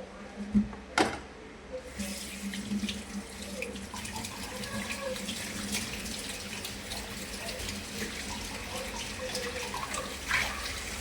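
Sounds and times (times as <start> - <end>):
tap water running into sink: 1.9 - 11.0.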